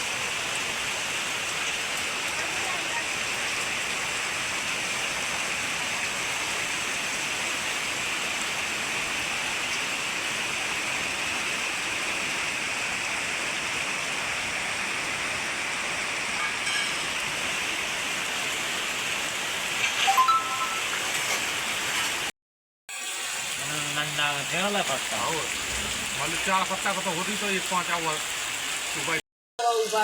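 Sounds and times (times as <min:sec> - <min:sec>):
rainwater rushing: 0:00.0 - 0:22.3, 0:22.9 - 0:30.0.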